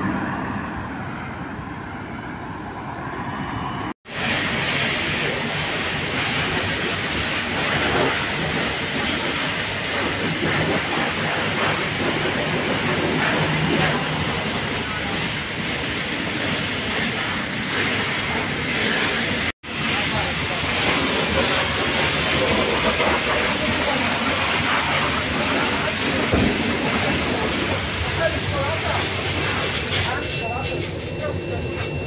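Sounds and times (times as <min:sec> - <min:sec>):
pressure washer spraying water: 0:04.1 - 0:32.0.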